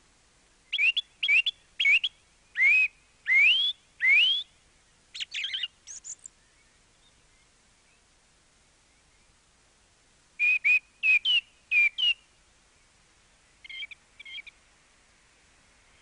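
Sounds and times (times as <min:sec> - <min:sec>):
bird song: 0:00.5 - 0:09.4, 0:10.4 - 0:14.6.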